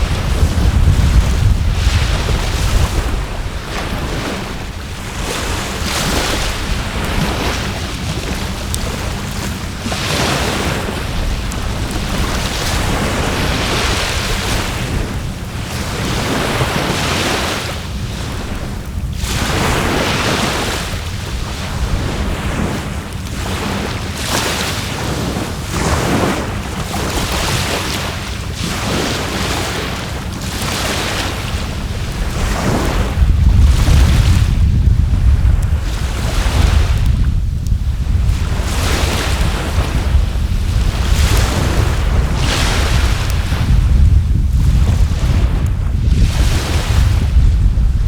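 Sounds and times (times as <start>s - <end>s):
sea waves washing ashore: 0.0s - 48.0s
wind rumbling on microphone: 0.0s - 48.0s.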